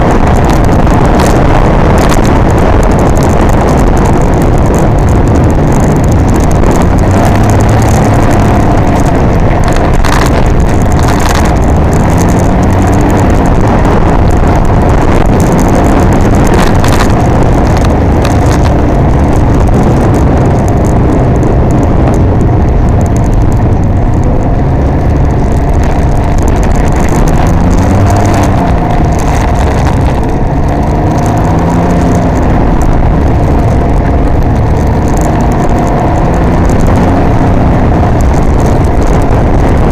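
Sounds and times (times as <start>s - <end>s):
engine running in traffic: 0.0s - 39.9s.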